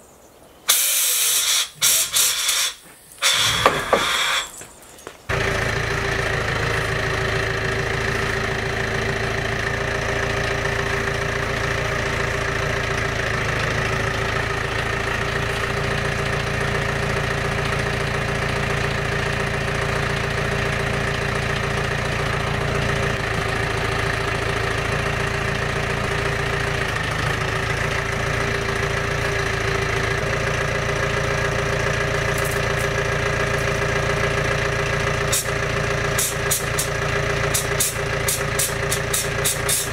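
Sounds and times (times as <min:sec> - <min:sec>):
tractor engine idling: 0:00.7 - 0:04.6, 0:05.3 - 0:39.9.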